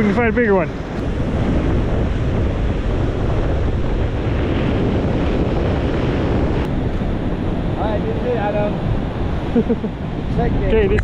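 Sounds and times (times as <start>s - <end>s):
ocean surf washing in: 0.0s - 11.0s
wind rumbling on microphone: 0.0s - 11.0s.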